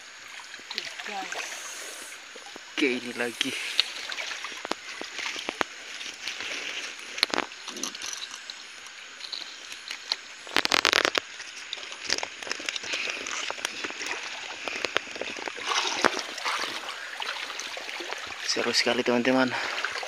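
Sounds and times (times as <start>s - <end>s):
stream water trickling: 0.0s - 20.0s.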